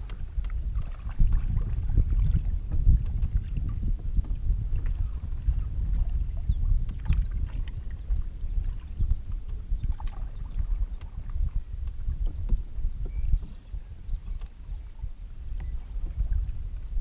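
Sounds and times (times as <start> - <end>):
water splashing around hull: 0.0 - 17.0
wind on microphone: 0.0 - 17.0.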